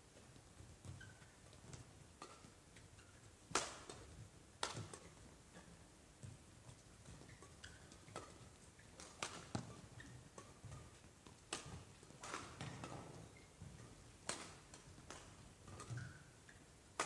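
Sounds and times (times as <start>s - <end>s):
court shoes squeaking: 0.3s - 3.3s, 3.9s - 16.7s
racket hitting shuttlecock: 0.8s - 17.0s.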